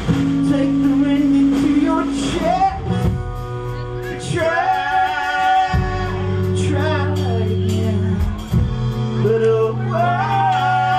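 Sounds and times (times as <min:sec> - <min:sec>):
band playing: 0:00.0 - 0:10.9
person singing: 0:00.0 - 0:10.9.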